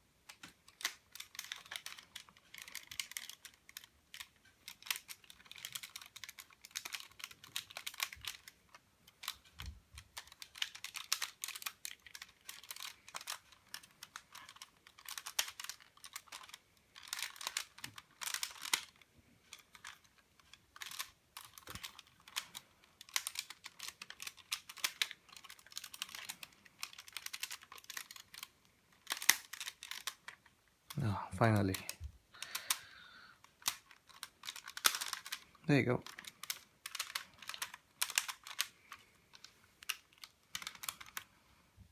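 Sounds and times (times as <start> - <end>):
plastic toy parts clicking: 0.2 - 41.3.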